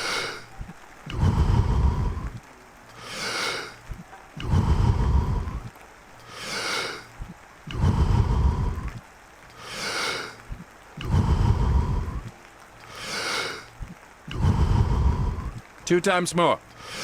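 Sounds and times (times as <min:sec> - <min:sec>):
forceful rhythmic breathing: 0:00.0 - 0:15.8, 0:16.7 - 0:17.0.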